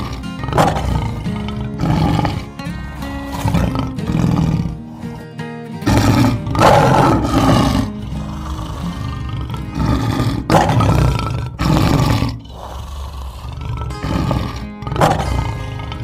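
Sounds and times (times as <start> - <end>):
background music: 0.0 - 16.0
lion roaring: 0.0 - 16.0.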